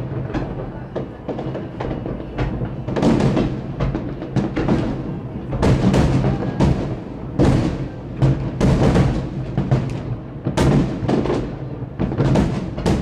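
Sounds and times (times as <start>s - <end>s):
fireworks exploding with echoes: 0.0s - 13.0s.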